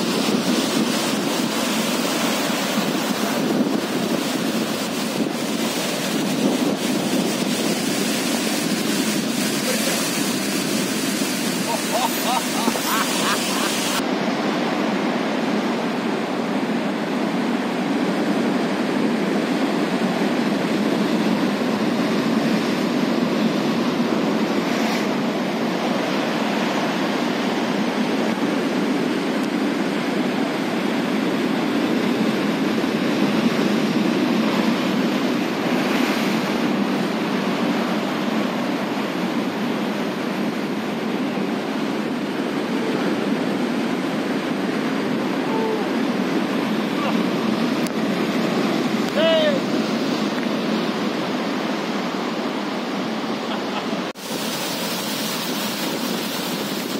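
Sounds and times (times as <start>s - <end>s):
surf breaking on rocky shore: 0.0s - 56.9s.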